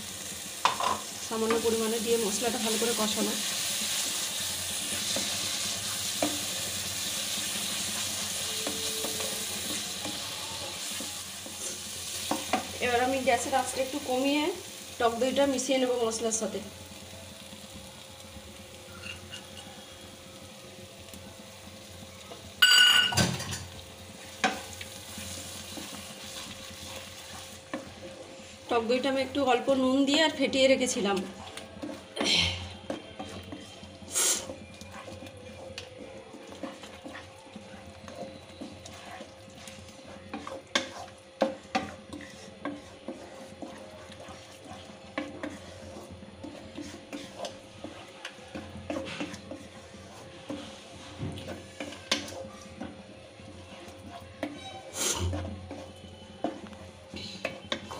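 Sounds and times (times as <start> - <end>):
spice paste sizzling: 0.0 - 57.9
spatula stirring: 0.6 - 16.4, 23.7 - 57.9.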